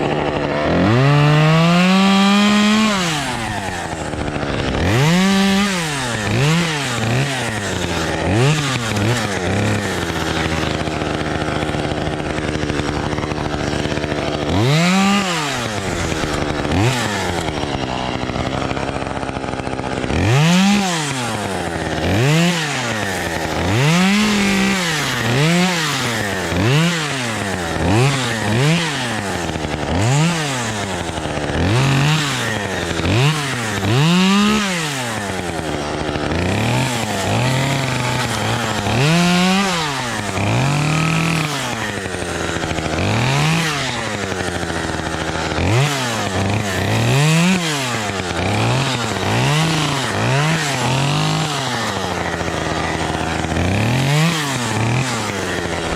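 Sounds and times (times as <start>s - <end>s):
chainsaw engine revving: 0.0s - 55.9s.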